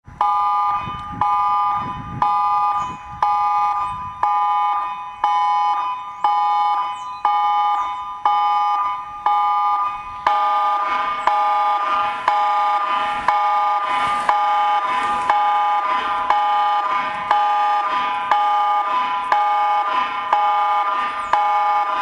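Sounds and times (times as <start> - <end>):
pulsing high alert tones: 0.2 - 22.0.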